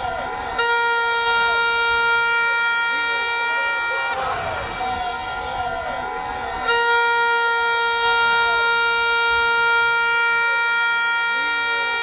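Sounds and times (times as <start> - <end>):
crowd noise: 0.0 - 12.0
faint wavering horn tones: 0.0 - 12.0
long steady horn blast: 0.0 - 12.0.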